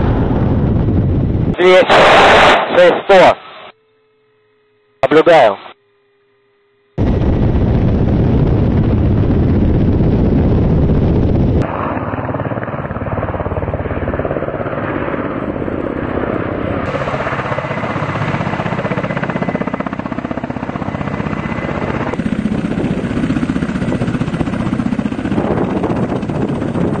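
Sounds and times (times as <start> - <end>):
helicopter rotors and engines: 0.0 - 3.7, 7.0 - 27.0.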